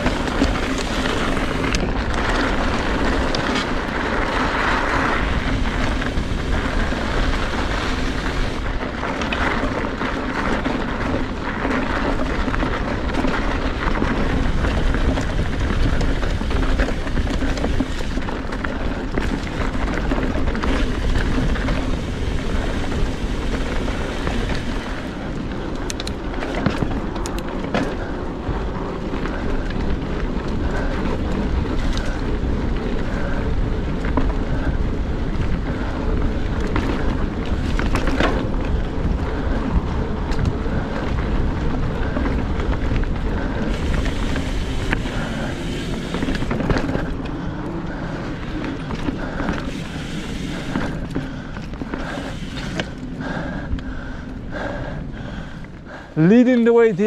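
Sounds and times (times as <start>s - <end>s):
mountain bike rumble and rattle: 0.0s - 57.0s
wind rushing over microphone: 0.0s - 57.0s.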